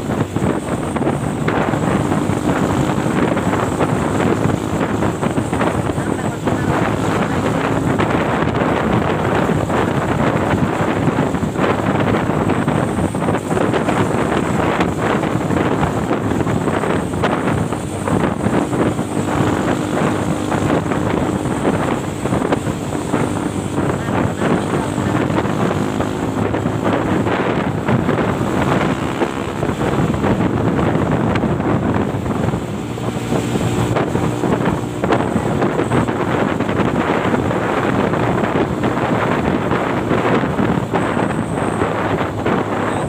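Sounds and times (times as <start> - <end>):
truck engine running: 0.0 - 43.0
wind noise on microphone: 0.0 - 43.0.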